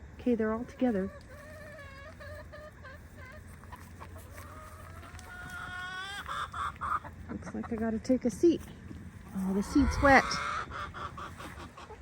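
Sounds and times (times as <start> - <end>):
chickens calling: 0.3 - 12.0
chicken clucks: 0.7 - 8.1, 9.2 - 12.0.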